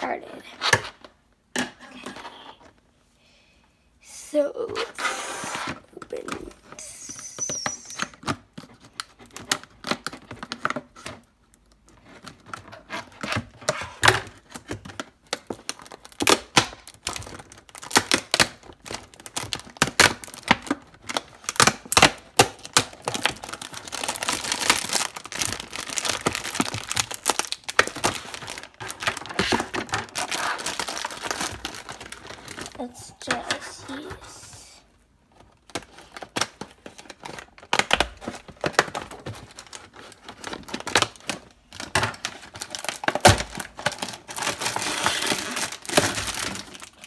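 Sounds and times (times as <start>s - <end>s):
wrapping crinkling and rustling: 4.6s - 47.0s.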